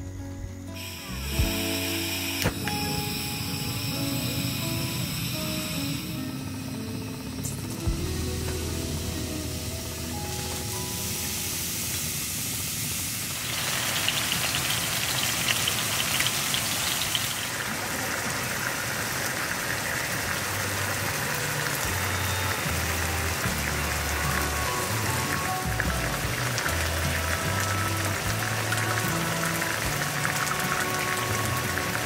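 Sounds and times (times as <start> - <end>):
food sizzling in frying pan: 0.8 - 6.3, 7.9 - 17.7, 18.6 - 32.0.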